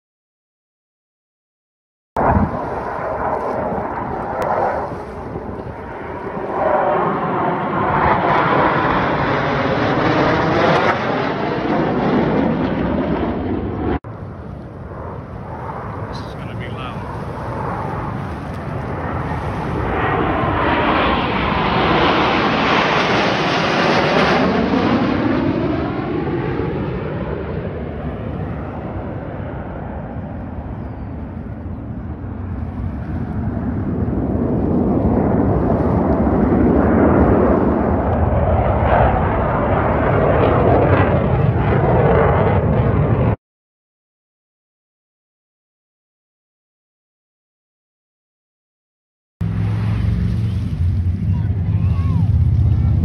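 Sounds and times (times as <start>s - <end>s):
jet engines roaring overhead: 2.2s - 43.4s, 49.4s - 53.0s.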